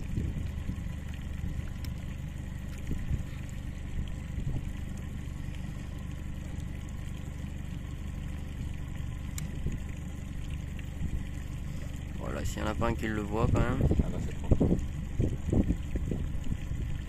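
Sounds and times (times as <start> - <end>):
faint hum: 0.0 - 17.0
low motor rumble: 0.0 - 17.0.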